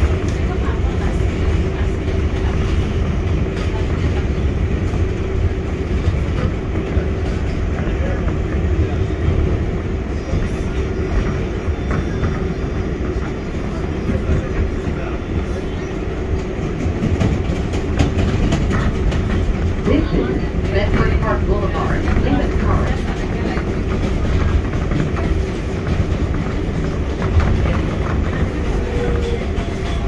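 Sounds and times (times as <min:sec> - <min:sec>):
subway wheels rumbling on track: 0:00.0 - 0:30.0.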